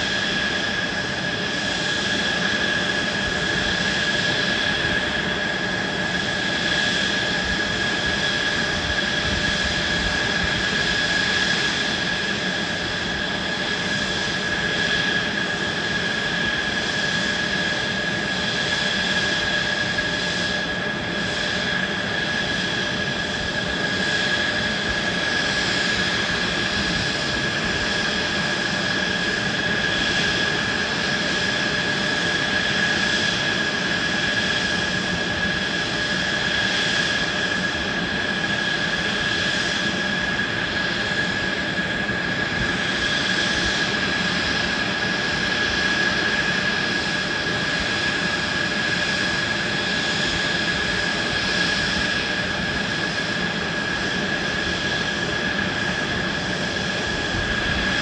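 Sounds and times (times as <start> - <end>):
jet engines idling whine: 0.0 - 58.0.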